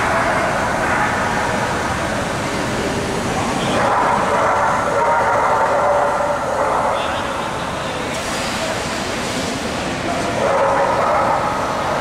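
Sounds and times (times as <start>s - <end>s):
hubbub of voices in hall: 0.0s - 12.0s.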